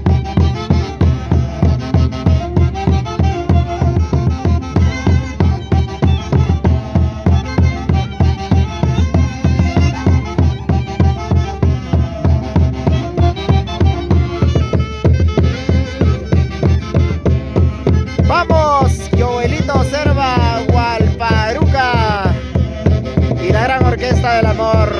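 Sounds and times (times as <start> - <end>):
folk orchestra playing dance tune: 0.0 - 24.9.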